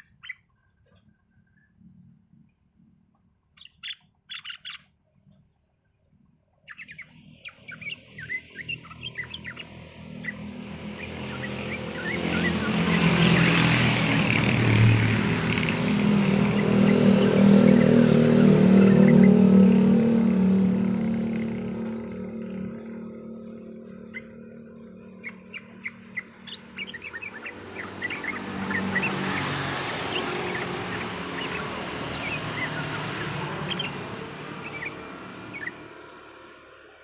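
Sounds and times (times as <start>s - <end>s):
bird chirps: 0.0s - 37.0s
vehicle engine: 7.1s - 36.8s.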